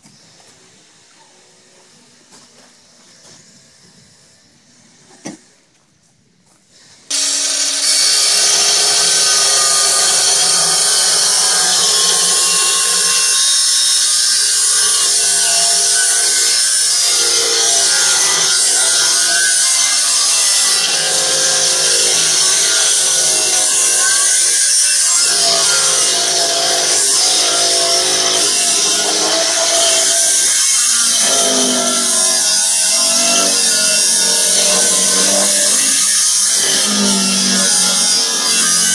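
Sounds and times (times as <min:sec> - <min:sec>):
angle grinder cutting steel pipe: 0:07.1 - 0:38.9.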